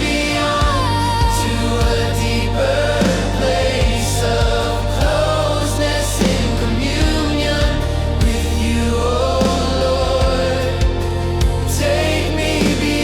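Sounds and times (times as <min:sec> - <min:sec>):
worship song with bass and beats: 0:00.0 - 0:13.0.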